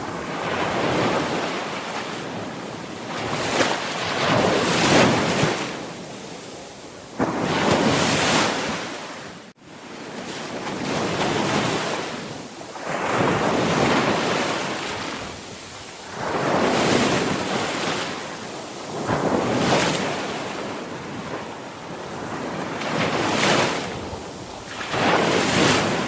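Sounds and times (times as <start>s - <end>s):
sea waves breaking ashore: 0.0s - 26.0s.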